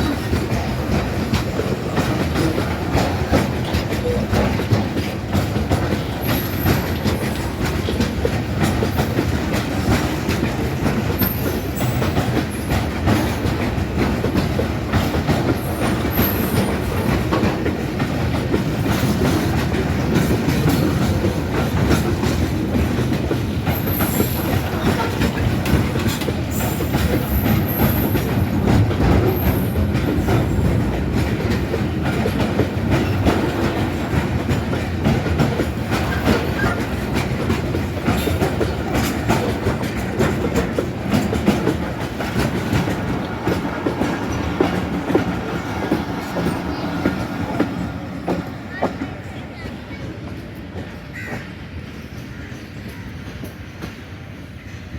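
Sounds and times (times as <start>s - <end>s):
train wheels clacking on rail joints: 0.0s - 54.8s.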